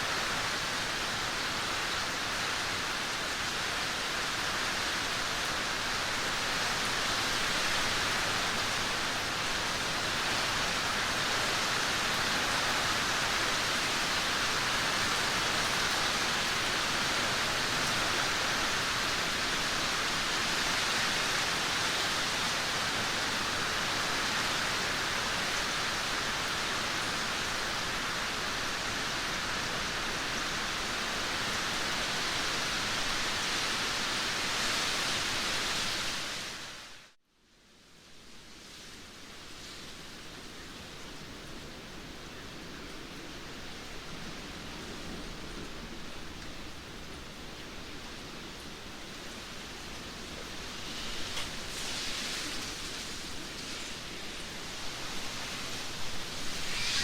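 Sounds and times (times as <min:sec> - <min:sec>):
heavy rain hissing: 0:00.0 - 0:37.2, 0:38.1 - 0:57.0.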